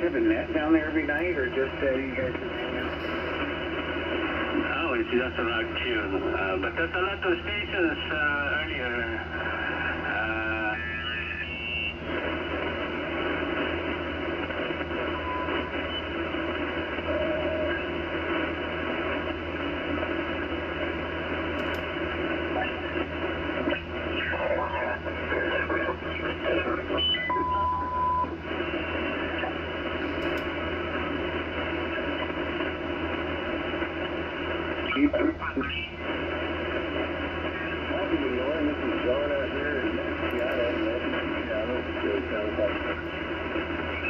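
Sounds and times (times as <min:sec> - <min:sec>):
garbled sideband radio signals: 0:00.0 - 0:44.0
radio static: 0:00.0 - 0:44.0.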